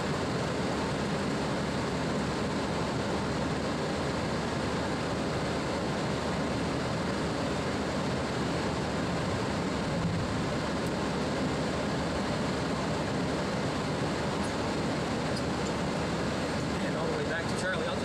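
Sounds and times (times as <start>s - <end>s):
aircraft engine and airflow noise: 0.0s - 18.0s.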